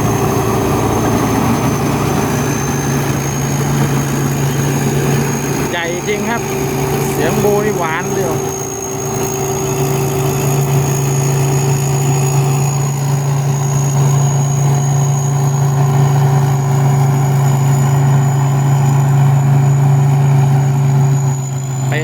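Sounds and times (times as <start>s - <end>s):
diesel engine drone: 0.0s - 22.0s
high turbo whistle: 0.0s - 22.0s.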